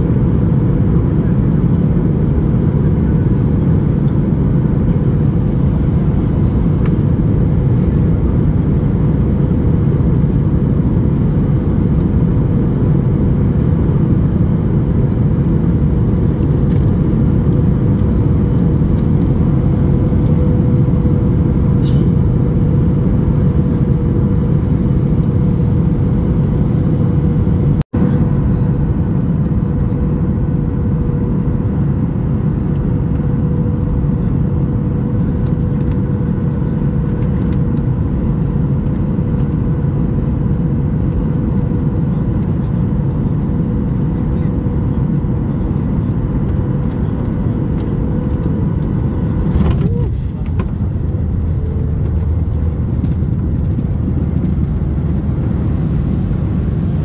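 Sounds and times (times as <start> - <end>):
airflow and engine rumble: 0.0 - 57.0
steady mid-pitched hum: 0.0 - 57.0.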